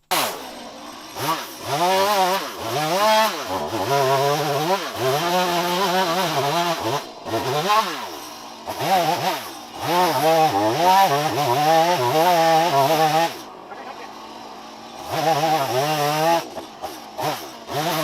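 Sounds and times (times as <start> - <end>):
chainsaw revving while cutting: 0.0 - 18.0.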